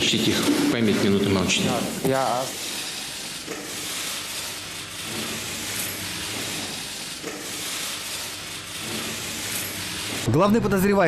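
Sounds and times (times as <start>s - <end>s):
steady hiss of hushed hall: 0.0s - 11.0s.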